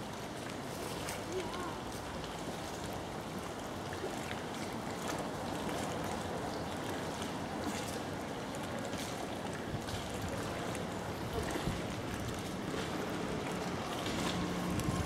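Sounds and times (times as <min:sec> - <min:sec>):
boat under way: 0:00.0 - 0:15.0
water washing past hull: 0:00.0 - 0:15.0.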